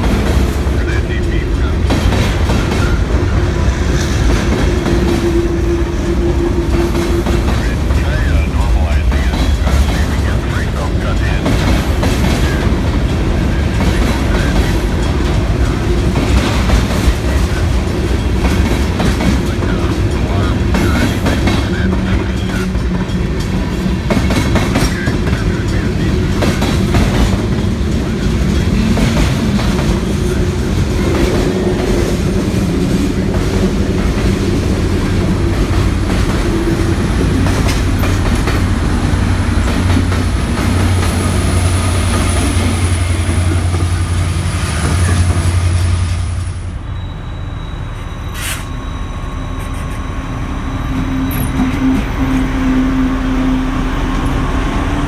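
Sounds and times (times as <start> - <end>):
diesel locomotive approaching: 0.0 - 55.0
freight train wheels clacking: 0.0 - 55.0
low train rumble: 0.0 - 55.0.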